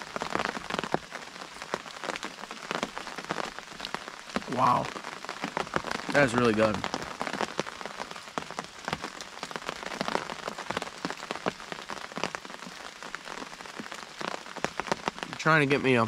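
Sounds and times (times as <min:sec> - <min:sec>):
rain tapping on fabric roof: 0:00.0 - 0:16.0.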